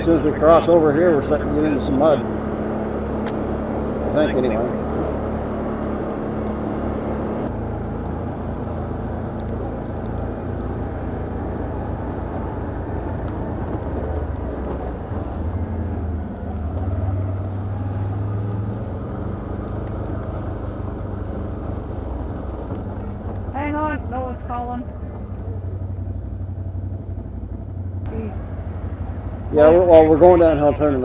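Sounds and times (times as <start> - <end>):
atv engine running: 0.0 - 31.0
trail noise: 0.0 - 31.0.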